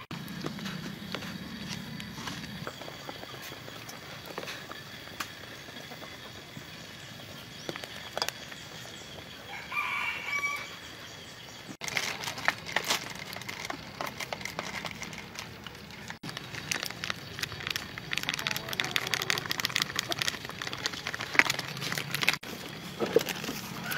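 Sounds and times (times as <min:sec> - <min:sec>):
rural outdoor background: 0:00.0 - 0:23.9.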